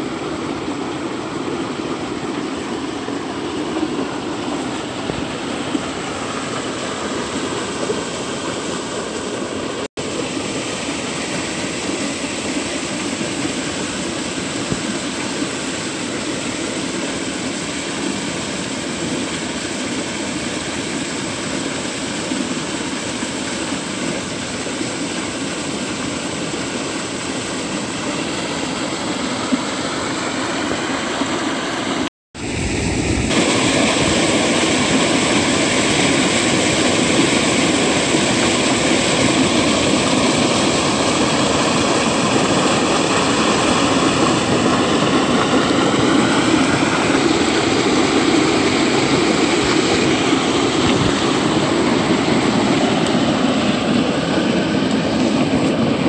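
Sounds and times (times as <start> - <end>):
water gushing from a pipe: 0.0 - 56.0.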